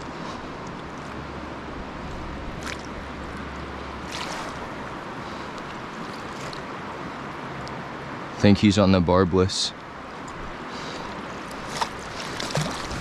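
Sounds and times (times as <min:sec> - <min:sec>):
flowing stream water: 0:00.0 - 0:13.0.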